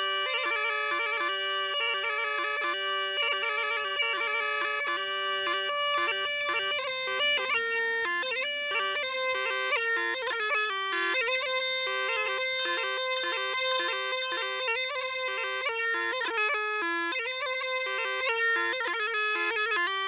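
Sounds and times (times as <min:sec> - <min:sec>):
bagpipe music: 0:00.0 - 0:20.0.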